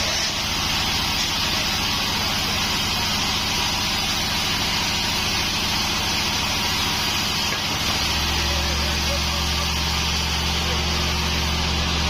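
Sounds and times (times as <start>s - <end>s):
sawmill engine drone: 0.0s - 12.0s.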